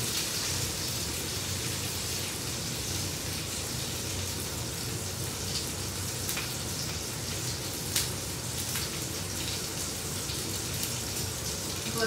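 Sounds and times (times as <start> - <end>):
water running from tap: 0.0 - 12.0.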